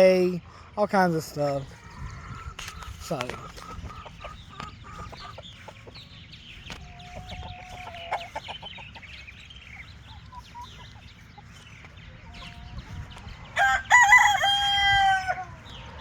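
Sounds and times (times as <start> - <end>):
chickens clucking and calling: 0.0 - 16.0.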